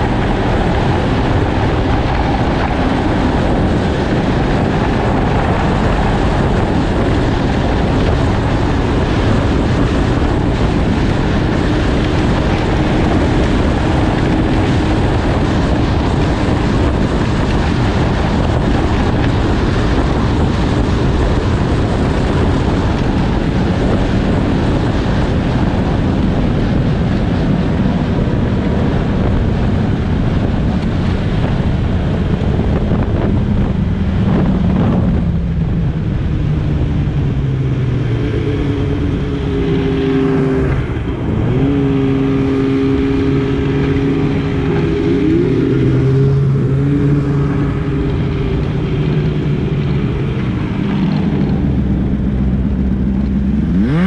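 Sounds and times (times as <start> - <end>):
snowmobile engine running: 0.0 - 54.0
wind rushing over microphone: 0.0 - 54.0.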